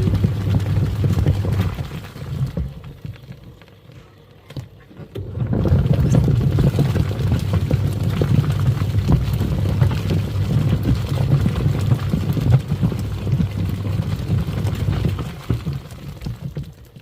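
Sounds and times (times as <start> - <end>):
washing machine motor humming: 0.0 - 17.0.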